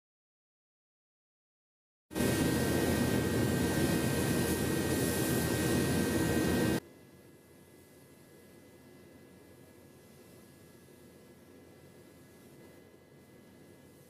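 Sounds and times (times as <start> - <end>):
spray gun air hiss: 2.2 - 14.0.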